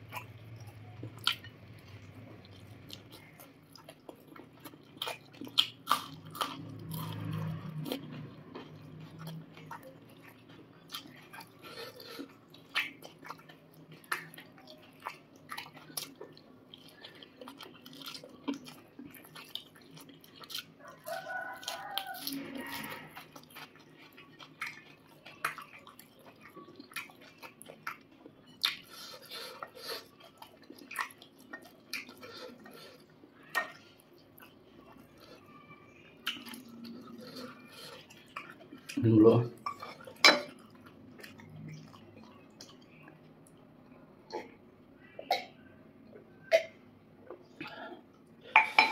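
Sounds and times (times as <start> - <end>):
person chewing and crunching: 0.0 - 44.6.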